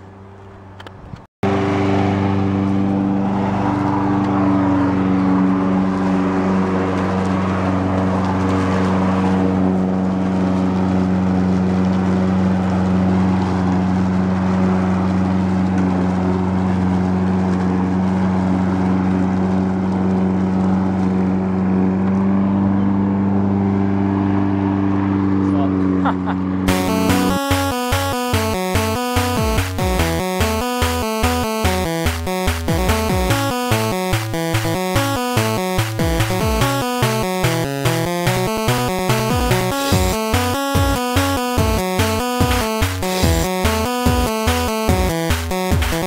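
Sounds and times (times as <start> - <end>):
lawn mower engine running: 1.4 - 46.0.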